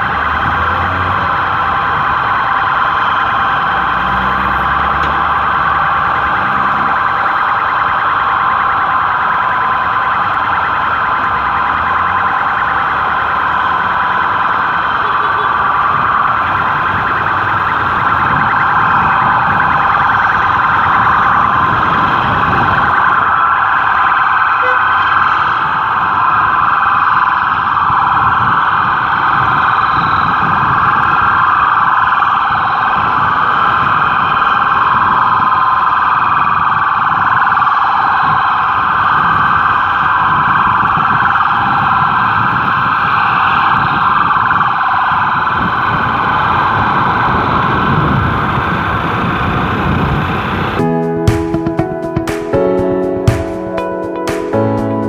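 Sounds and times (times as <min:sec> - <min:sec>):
police sirens: 0:00.0 - 0:55.0
street traffic: 0:00.0 - 0:55.0.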